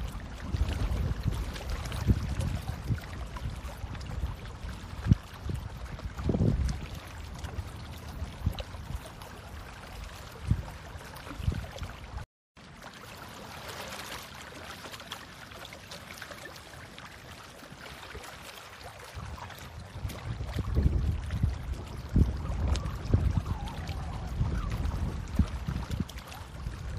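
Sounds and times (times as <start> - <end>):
wind and water rushing hiss: 0.0 - 26.9.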